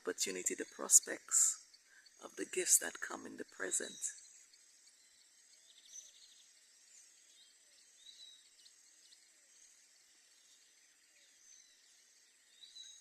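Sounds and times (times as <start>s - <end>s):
bird trill: 0.0s - 13.0s
birds chirping: 0.0s - 13.0s
insect hum: 0.0s - 13.0s.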